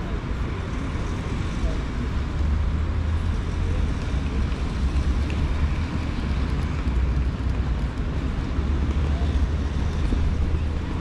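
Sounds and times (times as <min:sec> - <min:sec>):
city ambience rumble: 0:00.0 - 0:11.0.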